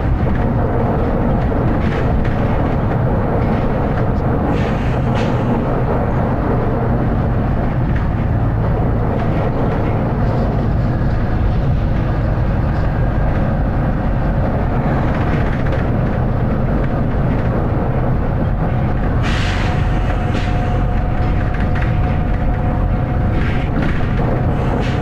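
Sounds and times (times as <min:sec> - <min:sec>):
bus body rattling: 0:00.0 - 0:25.0
bus diesel engine drone: 0:00.0 - 0:25.0.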